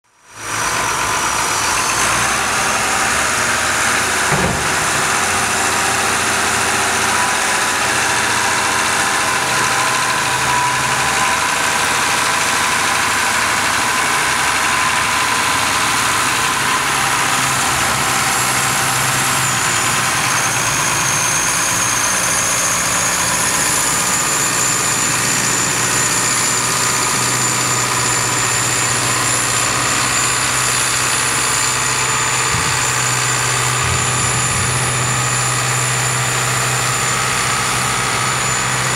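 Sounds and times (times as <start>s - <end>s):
tractor diesel engines under load: 0.1s - 38.9s.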